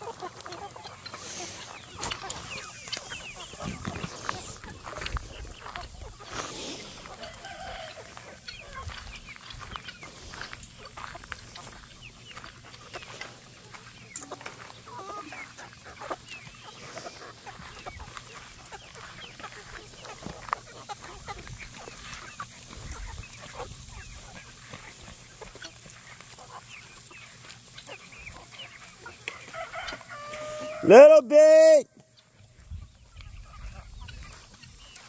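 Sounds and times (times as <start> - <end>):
chickens clucking and calling: 0.0 - 35.0.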